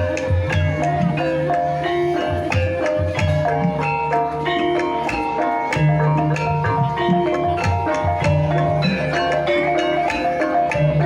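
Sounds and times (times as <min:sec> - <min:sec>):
gamelan music: 0:00.0 - 0:11.0.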